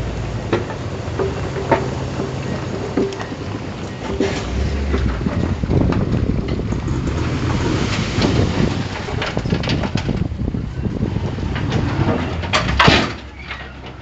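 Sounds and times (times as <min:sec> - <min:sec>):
diesel engine of heavy machinery: 0:00.0 - 0:14.0.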